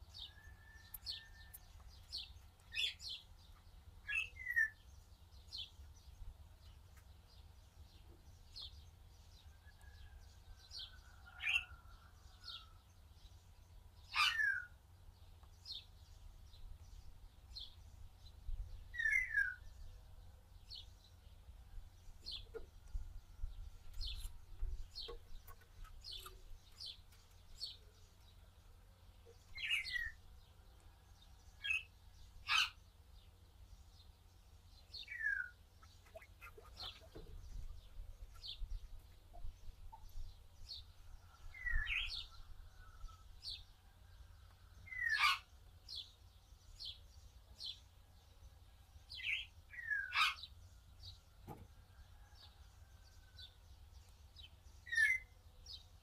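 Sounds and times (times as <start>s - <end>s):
birds chirping: 0.0s - 43.7s, 44.3s - 56.0s.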